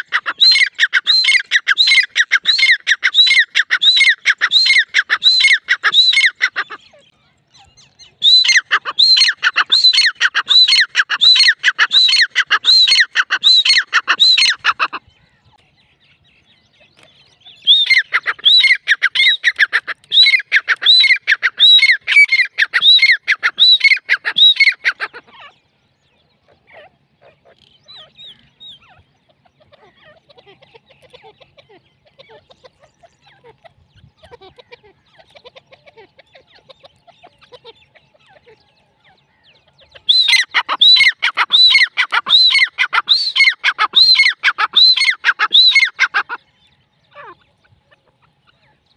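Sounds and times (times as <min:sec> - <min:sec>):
francolin calling: 0:00.0 - 0:48.9.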